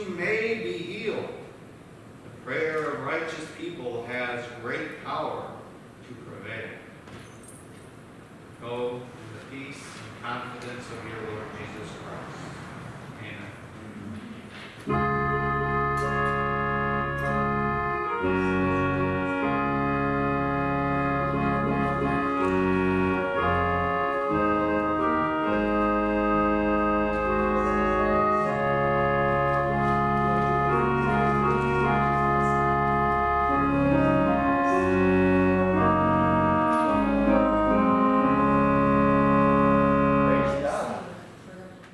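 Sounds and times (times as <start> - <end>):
organ playing sustained chords: 0.0 - 5.8, 8.8 - 13.8, 14.8 - 41.2.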